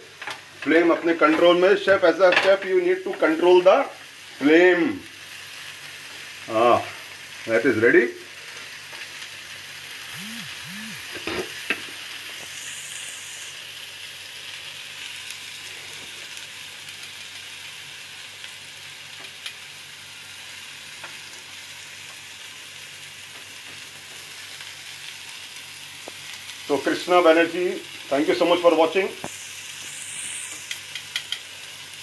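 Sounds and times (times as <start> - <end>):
skewers sizzling in a frying pan: 0.0 - 32.0.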